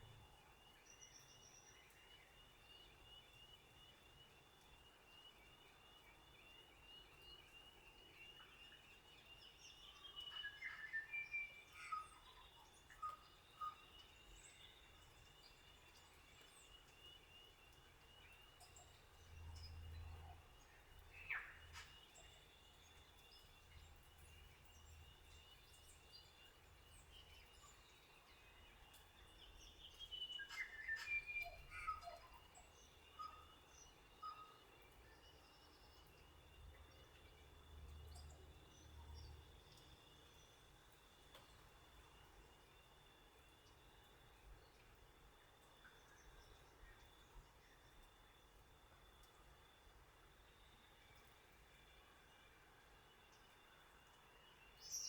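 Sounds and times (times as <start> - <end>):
faint hiss: 0.0 - 55.0.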